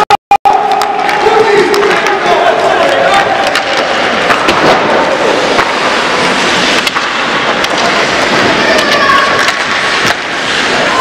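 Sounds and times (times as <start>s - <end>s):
hockey sticks and puck clacking: 0.5s - 11.0s
skates scraping ice: 0.6s - 11.0s.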